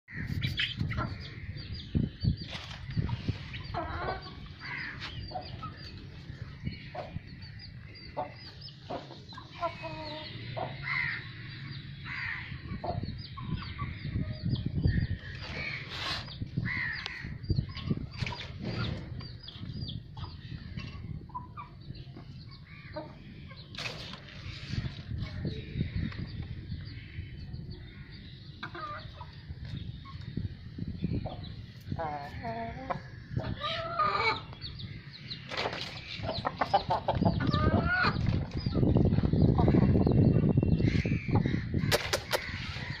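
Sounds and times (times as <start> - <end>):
chickens clucking: 0.2 - 11.8, 12.5 - 25.4, 27.5 - 43.0.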